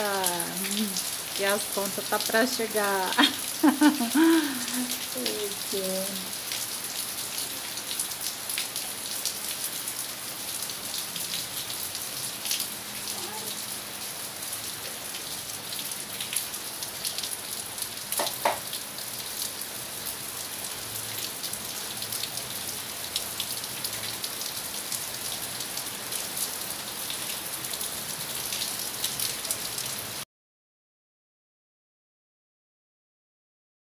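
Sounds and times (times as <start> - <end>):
steady rain falling: 0.0 - 30.2.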